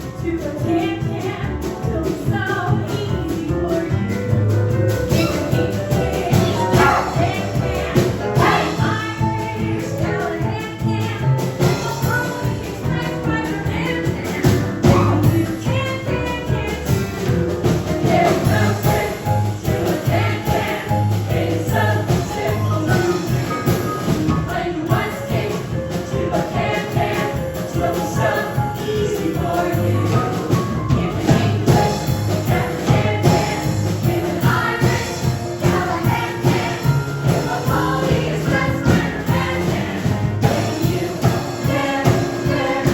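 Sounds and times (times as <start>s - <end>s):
music with singing voices: 0.0s - 42.9s.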